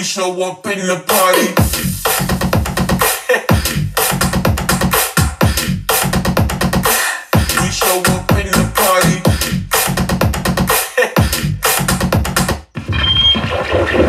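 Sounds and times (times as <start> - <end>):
electronic dance music: 1.1 - 12.7.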